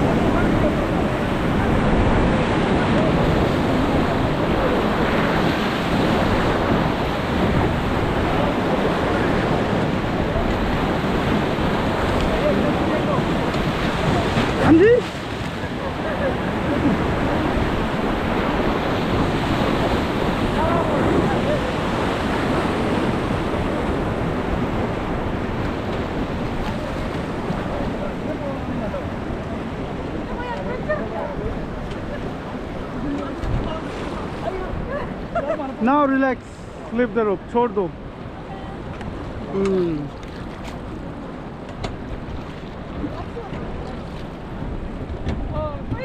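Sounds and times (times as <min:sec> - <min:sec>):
wind buffeting microphone: 0:00.0 - 0:35.8, 0:37.9 - 0:46.0
river rapids rushing: 0:00.0 - 0:40.2.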